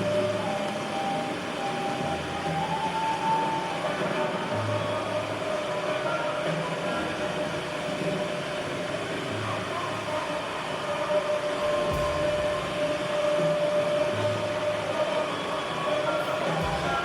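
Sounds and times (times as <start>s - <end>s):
dense noise drone: 0.0s - 17.0s.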